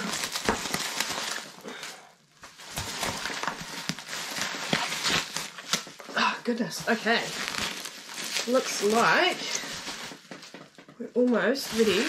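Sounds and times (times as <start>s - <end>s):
packing material rustling and crinkling: 0.0s - 12.0s.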